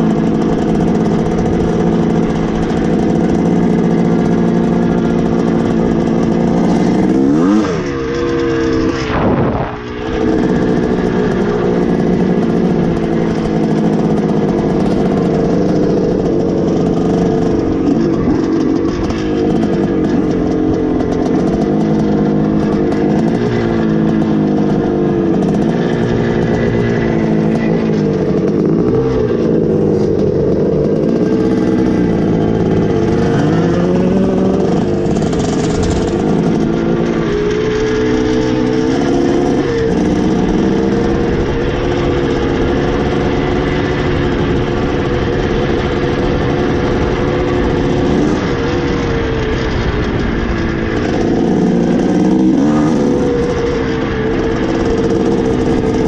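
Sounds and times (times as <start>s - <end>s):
two-stroke dirt bike engine revving: 0.0s - 56.0s.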